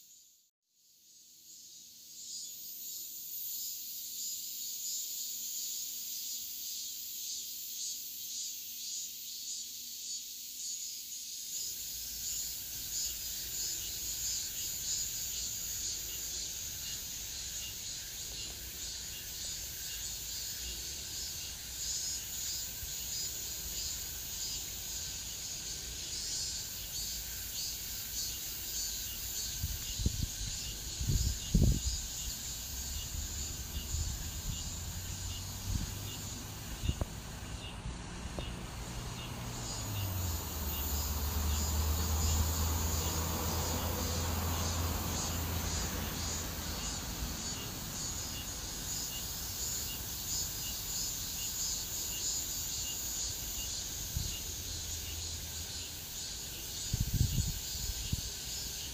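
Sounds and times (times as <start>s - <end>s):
cicadas buzzing: 0.0s - 58.9s.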